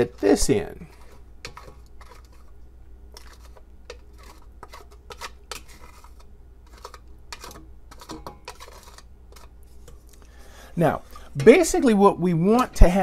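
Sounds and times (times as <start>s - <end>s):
wooden spoon scraping and tapping bowl: 0.0s - 2.5s, 3.1s - 10.1s, 10.8s - 13.0s.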